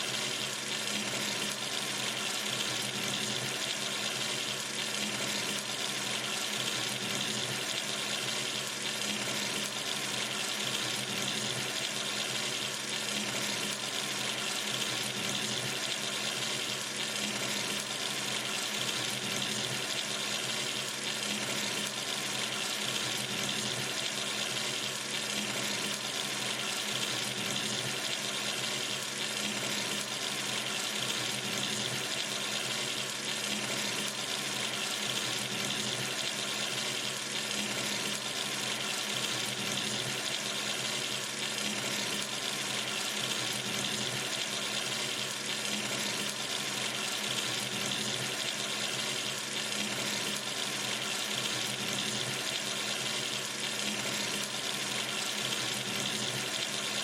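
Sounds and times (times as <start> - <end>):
water running from sink tap: 0.0 - 57.0.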